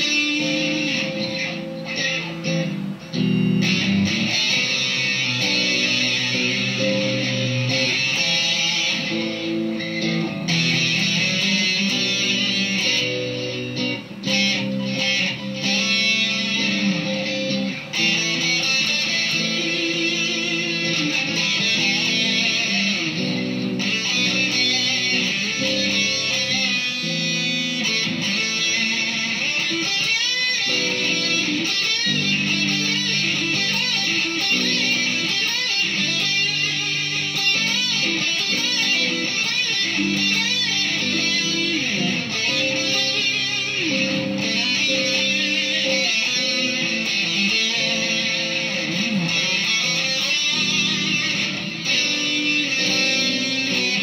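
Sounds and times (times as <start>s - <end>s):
overdriven electric guitar: 0.0s - 54.0s.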